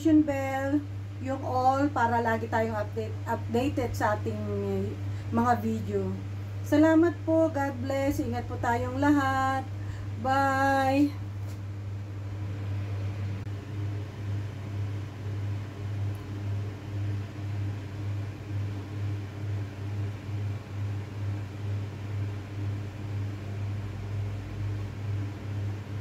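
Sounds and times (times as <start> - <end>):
pulsing low machine hum: 0.0 - 26.0.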